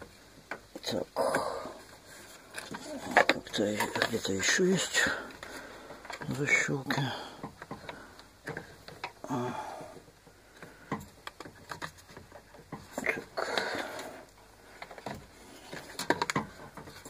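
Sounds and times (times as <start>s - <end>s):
rustling noises: 1.6s - 9.2s, 9.9s - 17.0s.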